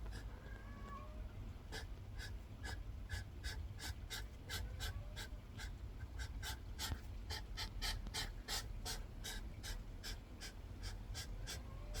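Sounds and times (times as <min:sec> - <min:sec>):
hedgehogs huffing: 0:01.7 - 0:12.0.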